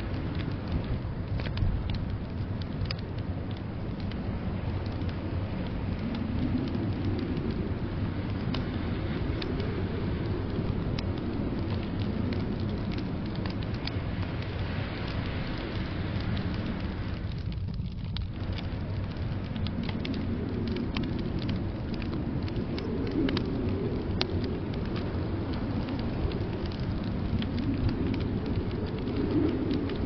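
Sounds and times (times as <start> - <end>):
low rumble of blizzard wind: 0.0 - 30.0
wood fire crackling and popping: 0.0 - 30.0.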